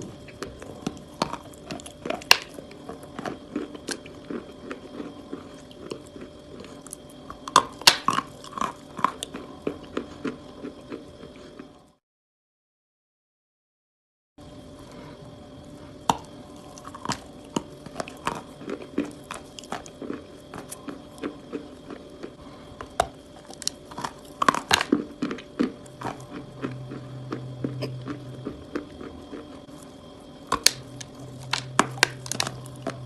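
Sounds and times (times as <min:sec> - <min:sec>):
biting and crunching chalk: 0:00.0 - 0:11.3, 0:16.1 - 0:22.2, 0:22.8 - 0:29.9, 0:30.5 - 0:33.0.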